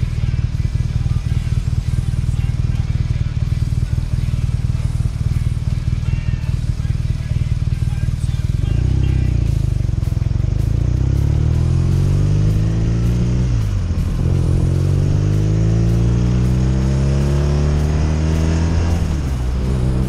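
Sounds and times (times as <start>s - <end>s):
motorcycle accelerating with upshifts: 0.0s - 20.0s.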